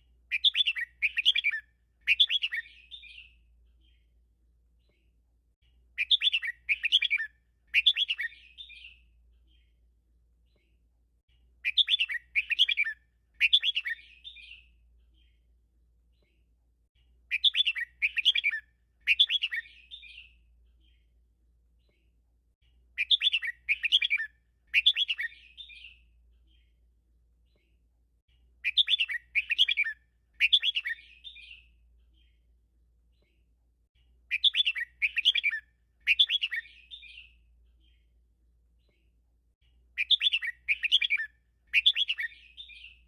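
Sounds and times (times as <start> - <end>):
bird singing chirping phrases: 0.3 - 4.2, 4.8 - 9.8, 10.5 - 15.5, 17.0 - 21.1, 21.8 - 26.8, 27.4 - 33.4, 34.0 - 38.2, 38.8 - 43.0.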